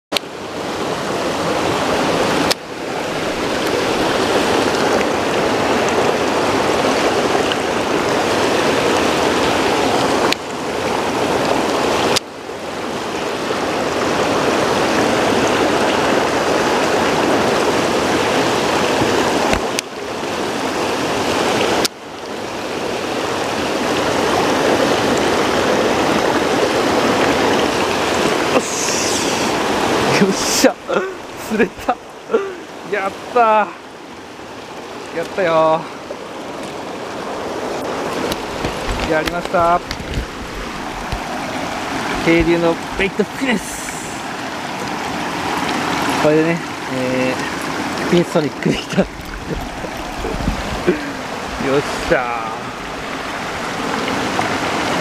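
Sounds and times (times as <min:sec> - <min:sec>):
stream rushing over rocks: 0:00.1 - 0:55.0.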